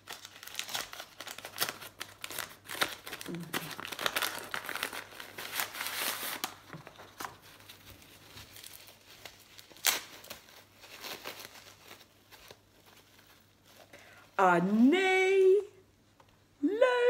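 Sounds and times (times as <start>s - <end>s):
wrapping paper rustling and tearing: 0.0s - 14.4s.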